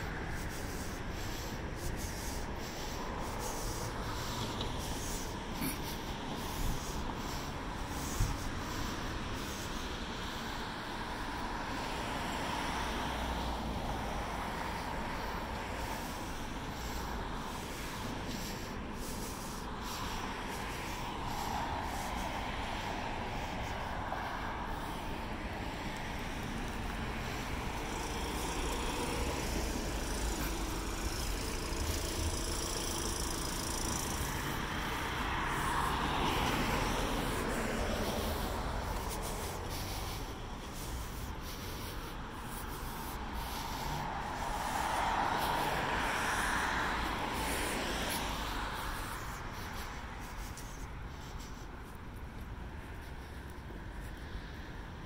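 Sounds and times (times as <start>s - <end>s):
steady low traffic rumble: 0.0s - 55.0s
vehicles passing: 0.0s - 55.0s.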